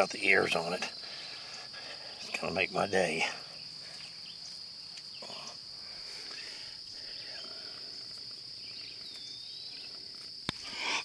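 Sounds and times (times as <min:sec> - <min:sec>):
insects buzzing shrilly: 0:00.0 - 0:11.0.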